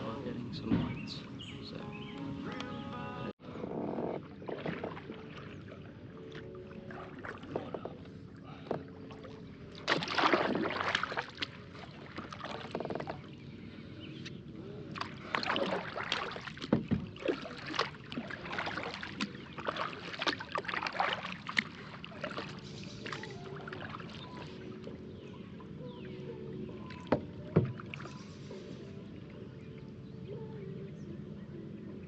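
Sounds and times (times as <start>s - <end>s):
paddle splashing in water: 3.5s - 30.4s.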